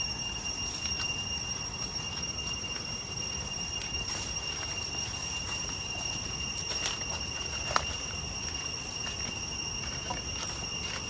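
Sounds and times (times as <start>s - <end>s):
cicadas calling: 0.0s - 11.0s
footsteps on leaves: 0.0s - 11.0s.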